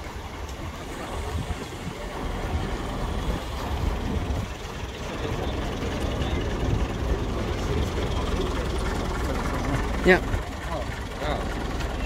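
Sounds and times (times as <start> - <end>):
bus diesel engine rumbling: 0.0 - 12.0.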